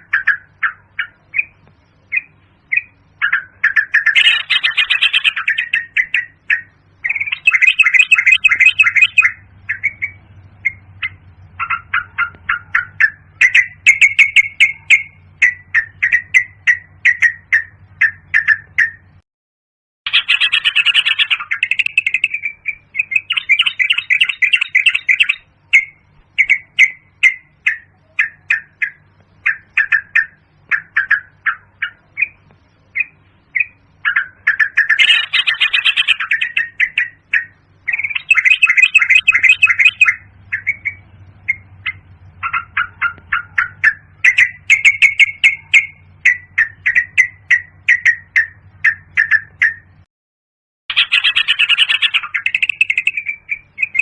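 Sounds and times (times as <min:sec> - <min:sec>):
bird chirping and chattering: 0:00.0 - 0:19.2, 0:20.1 - 0:50.0, 0:50.9 - 0:54.0.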